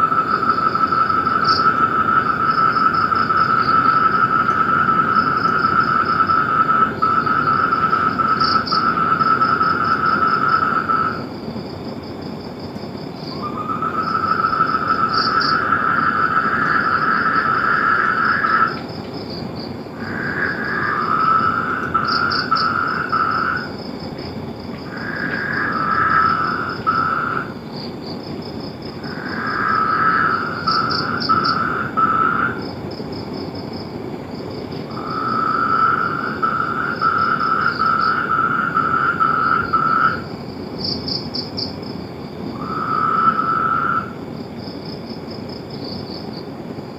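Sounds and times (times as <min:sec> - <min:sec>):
frogs calling in trills: 0:00.0 - 0:46.9
steady background hiss: 0:00.0 - 0:46.9.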